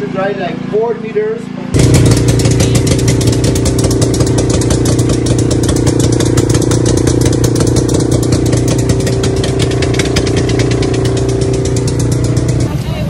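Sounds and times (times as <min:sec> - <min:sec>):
quad bike engine idling: 0:01.7 - 0:13.0.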